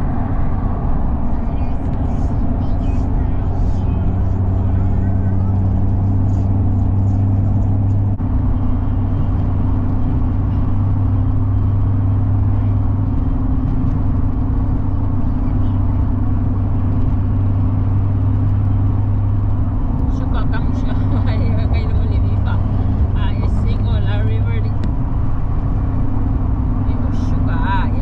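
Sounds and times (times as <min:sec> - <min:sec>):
car engine and road drone: 0:00.0 - 0:28.0.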